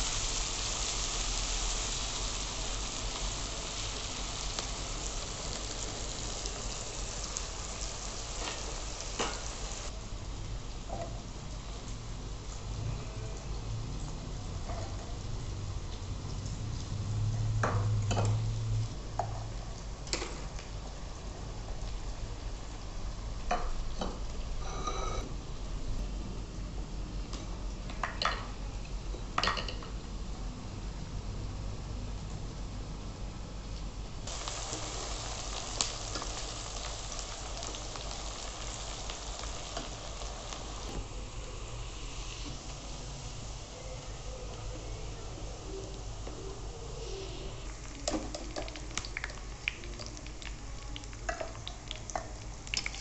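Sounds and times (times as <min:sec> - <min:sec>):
onions sizzling in hot oil: 0:00.0 - 0:25.2, 0:34.2 - 0:53.0.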